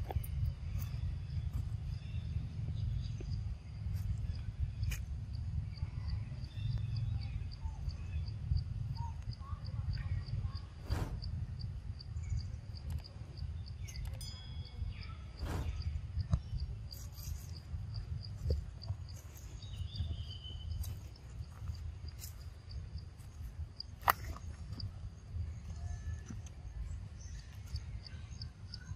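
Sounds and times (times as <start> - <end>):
low rumble: 0.0 - 28.7
insect chirping: 0.0 - 28.9.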